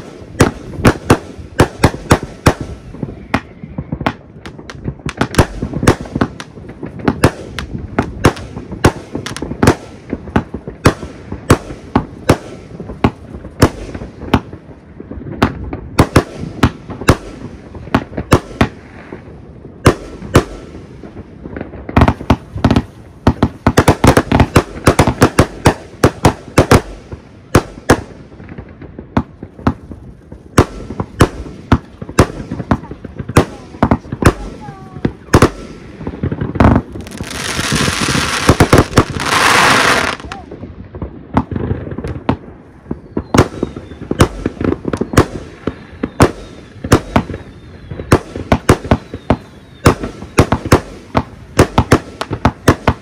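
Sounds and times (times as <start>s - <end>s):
fireworks and firecrackers banging: 0.0s - 53.0s.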